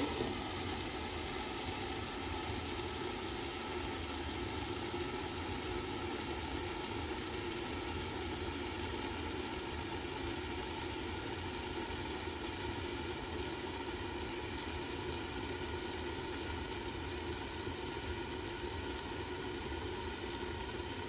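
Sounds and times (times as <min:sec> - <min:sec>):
food cooking in a lidded pan: 0:00.0 - 0:21.0.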